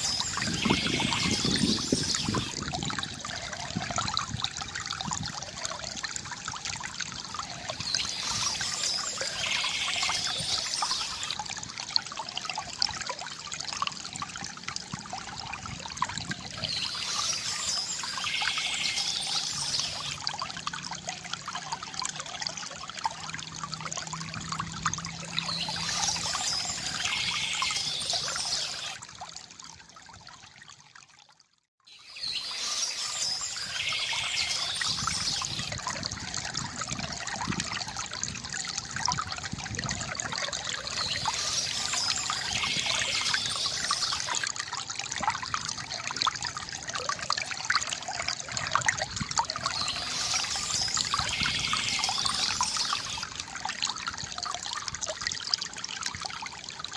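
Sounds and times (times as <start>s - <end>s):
water trickling into a basin: 0.0s - 56.9s.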